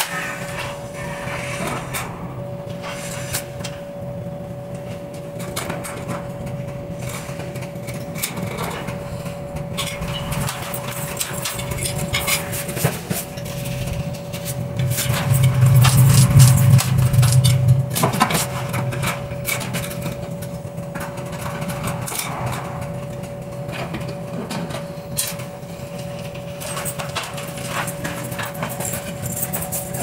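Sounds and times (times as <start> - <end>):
steady hum: 0.0 - 29.1.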